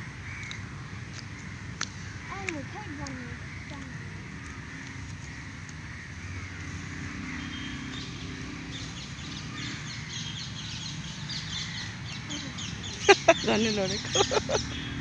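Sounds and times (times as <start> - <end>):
birds calling: 0.0 - 15.0
outdoor background noise: 0.0 - 15.0
rapid high chattering calls: 0.2 - 15.0.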